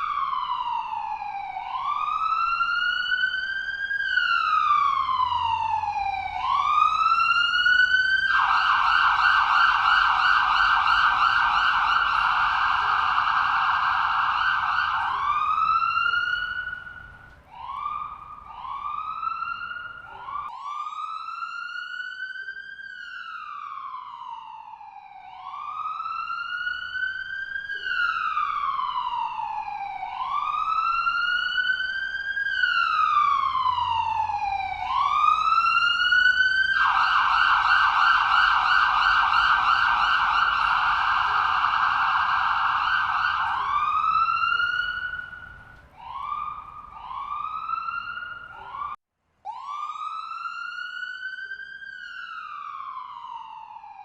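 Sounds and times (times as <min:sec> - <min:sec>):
ambulance siren: 0:00.0 - 0:54.0.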